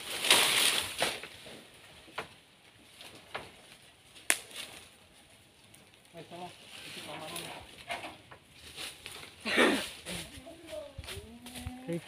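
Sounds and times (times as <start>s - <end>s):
dry leaves rustling: 0.0s - 1.9s, 2.8s - 12.0s.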